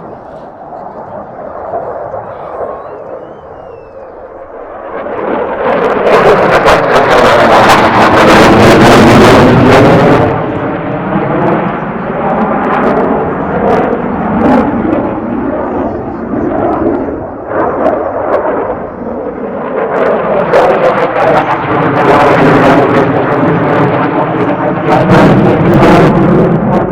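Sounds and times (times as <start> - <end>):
aircraft flying past: 0.0 - 26.9.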